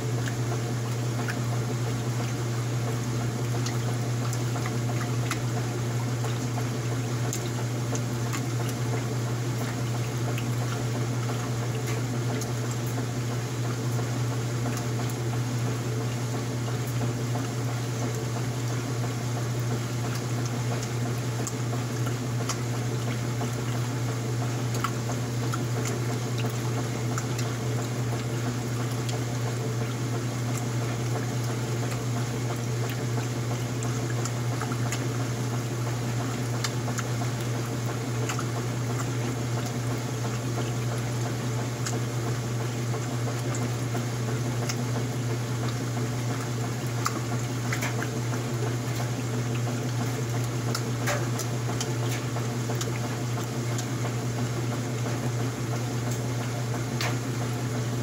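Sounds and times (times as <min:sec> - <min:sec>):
washing machine motor hum: 0:00.0 - 0:58.0
water sloshing and churning: 0:00.0 - 0:58.0.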